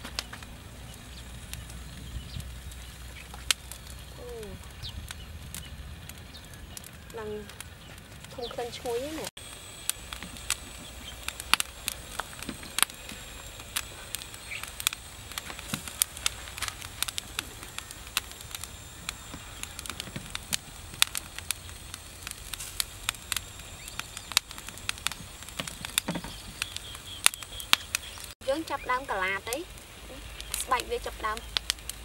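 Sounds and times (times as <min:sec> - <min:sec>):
charcoal embers crackling and popping: 0:00.0 - 0:32.0.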